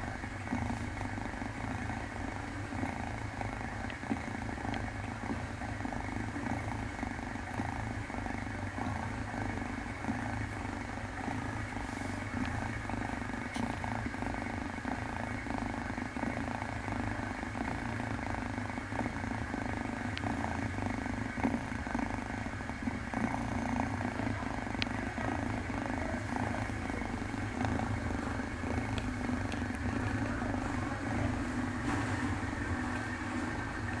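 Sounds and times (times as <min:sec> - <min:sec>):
kitten purring: 0:00.0 - 0:34.0
steady background hum: 0:00.0 - 0:34.0.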